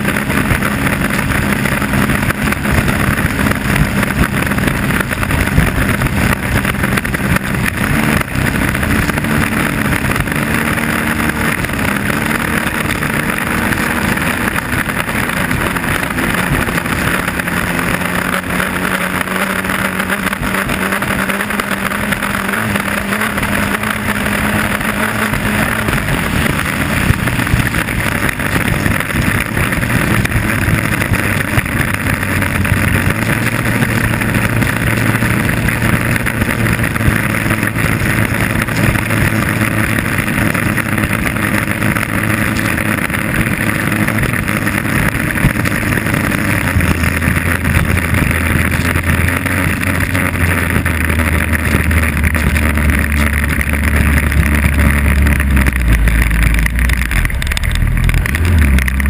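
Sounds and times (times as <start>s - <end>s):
boat engine running at speed: 0.0s - 59.0s
water rushing: 0.0s - 59.0s.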